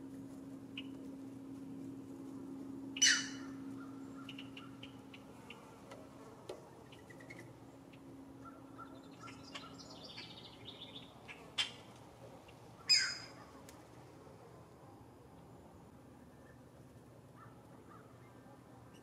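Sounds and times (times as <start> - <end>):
faint steady hum: 0.0 - 19.0
songbirds chirping faintly: 0.0 - 19.0.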